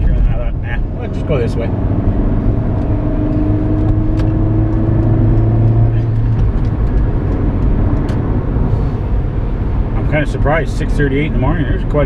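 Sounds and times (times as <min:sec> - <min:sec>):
road rumble: 0:00.0 - 0:12.0
vehicle engine drone: 0:00.0 - 0:12.0.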